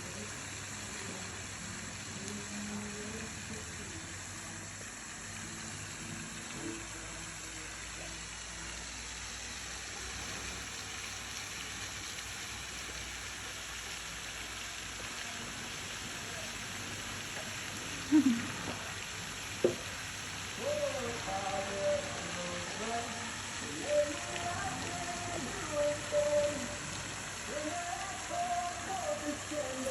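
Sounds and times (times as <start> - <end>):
running splashing water: 0.0 - 29.9.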